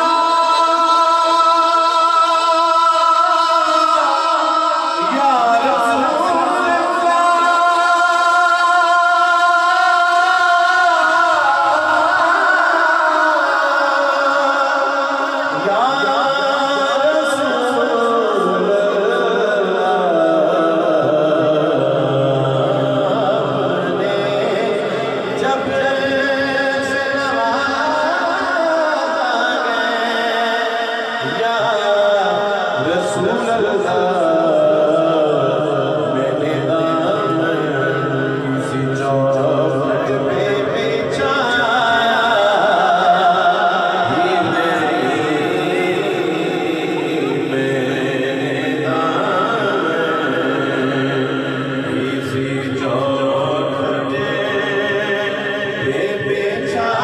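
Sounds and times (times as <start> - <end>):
man singing devotional song: 0.0 - 57.0.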